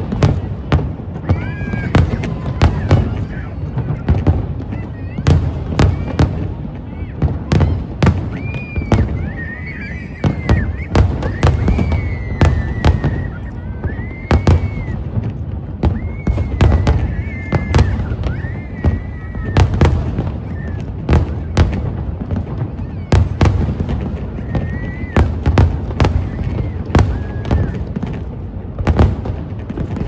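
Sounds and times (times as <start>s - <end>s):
fireworks bangs: 0.0s - 30.0s.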